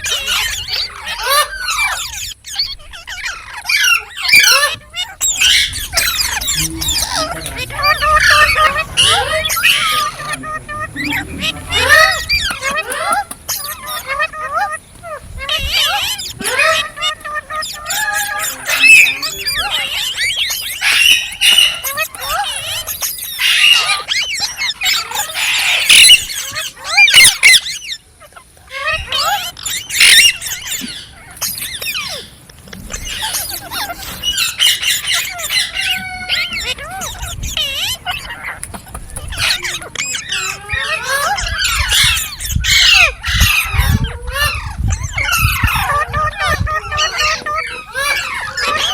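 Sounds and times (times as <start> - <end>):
parrot squawks and squeals: 0.0 - 48.9
parrots chattering: 0.0 - 48.9.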